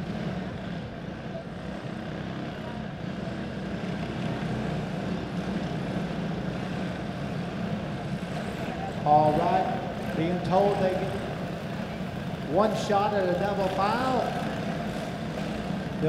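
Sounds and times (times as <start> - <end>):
kart engines droning: 0.0 - 16.0.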